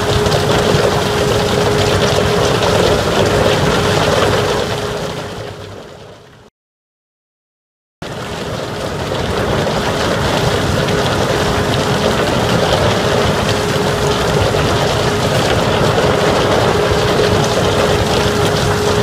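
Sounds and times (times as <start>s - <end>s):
constant hum: 0.0s - 6.4s, 8.1s - 19.0s.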